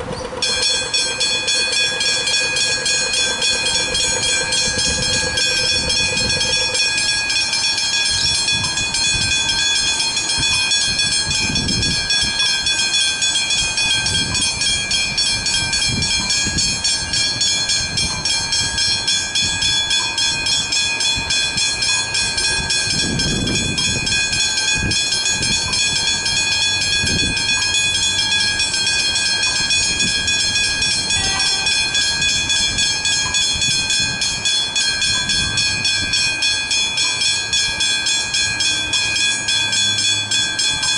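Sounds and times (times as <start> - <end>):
low rumbles: 0.0 - 39.7
level crossing warning bells ringing: 0.0 - 40.9.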